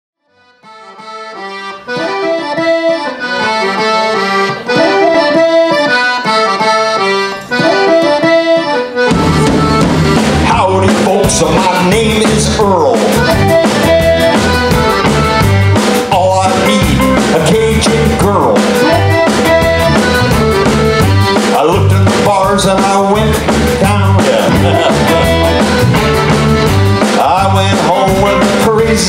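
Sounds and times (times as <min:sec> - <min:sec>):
piano accordion melody: 0:00.2 - 0:29.0
band with drums and bass: 0:00.9 - 0:29.0.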